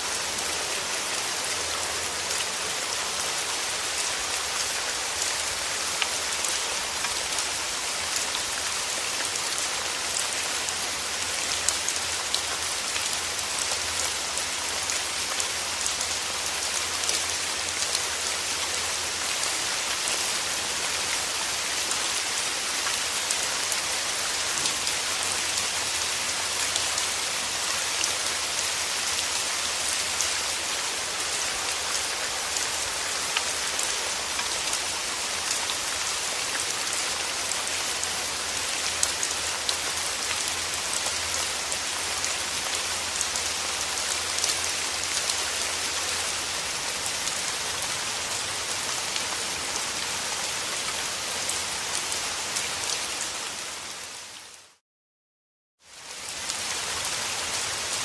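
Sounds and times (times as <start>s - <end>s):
steady rain hiss: 0.0s - 54.8s, 55.9s - 58.0s.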